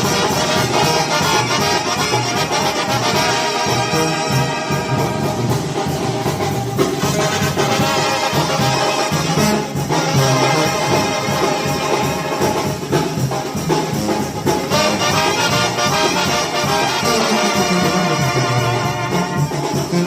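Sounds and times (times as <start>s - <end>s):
banda music with brass: 0.0s - 20.0s.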